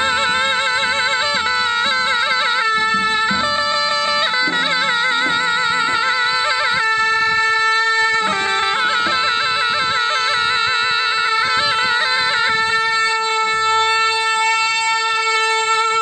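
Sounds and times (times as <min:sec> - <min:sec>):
zurna playing folk melody: 0:00.0 - 0:16.0.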